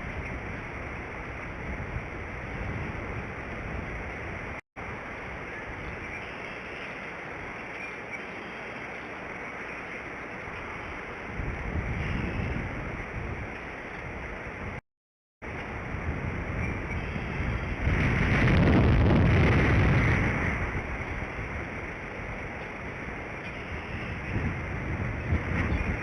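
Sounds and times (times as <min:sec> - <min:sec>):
wind buffeting microphone: 0:00.0 - 0:06.2, 0:10.2 - 0:14.8, 0:15.4 - 0:26.0.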